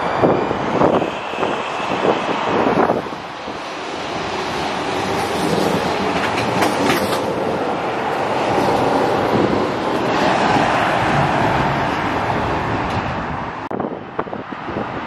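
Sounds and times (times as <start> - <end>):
metro train rumbling past: 0.0 - 15.0.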